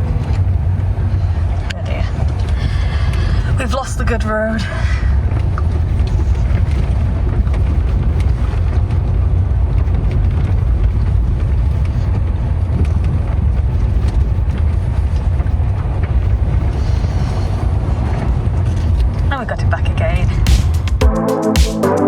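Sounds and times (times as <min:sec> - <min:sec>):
car tyres rumbling on rough road: 0:00.0 - 0:21.0.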